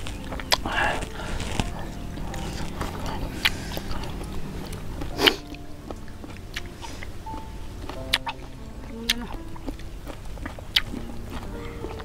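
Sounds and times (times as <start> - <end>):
people chewing and biting food: 0.0 - 12.0.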